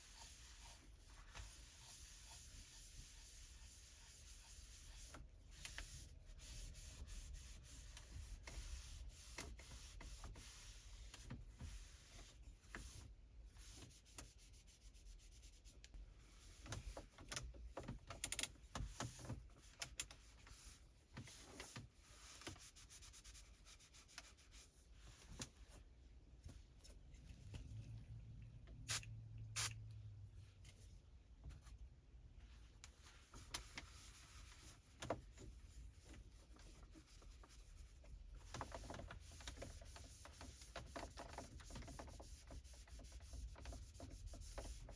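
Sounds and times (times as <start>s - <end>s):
cloth wiping surfaces: 0.0s - 17.1s, 18.7s - 44.9s.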